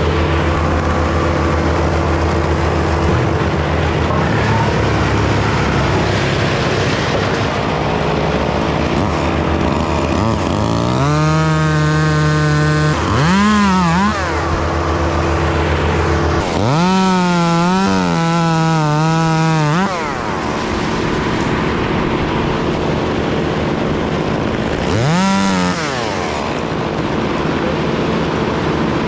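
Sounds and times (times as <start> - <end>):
chainsaw idling and revving: 0.0 - 29.0.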